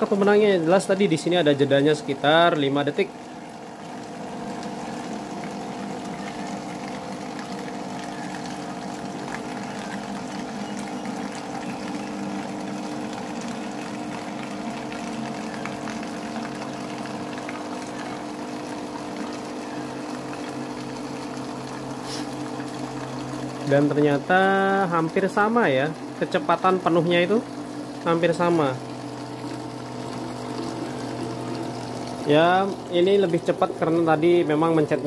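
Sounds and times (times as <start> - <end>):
small pump motors humming: 0.0 - 35.0
water streaming into bottles: 0.0 - 35.0.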